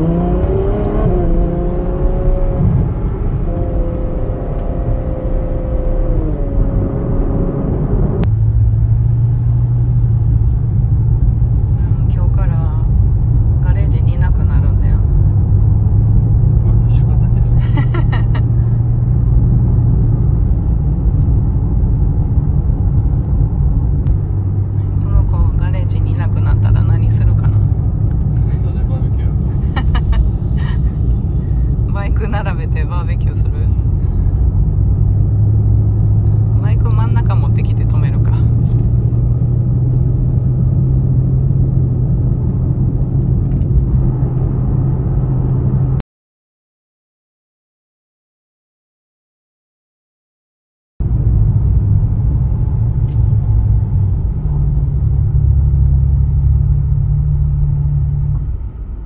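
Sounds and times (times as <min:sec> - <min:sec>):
car engine drone from cabin: 0:00.0 - 0:46.0, 0:51.0 - 0:59.0.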